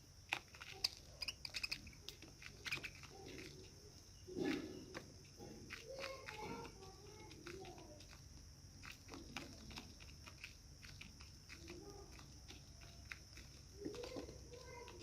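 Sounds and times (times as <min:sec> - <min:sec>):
parrots pecking beak clicks: 0:00.0 - 0:15.0.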